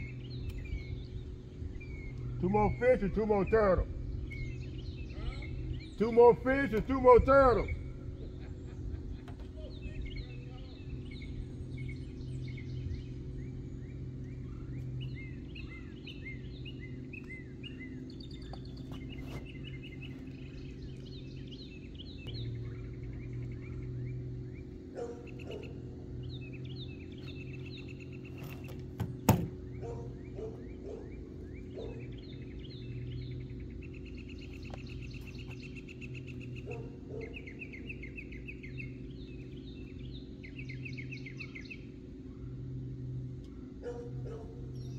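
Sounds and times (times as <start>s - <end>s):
low outdoor rumble: 0.0s - 44.9s
small birds chirping: 0.0s - 44.9s.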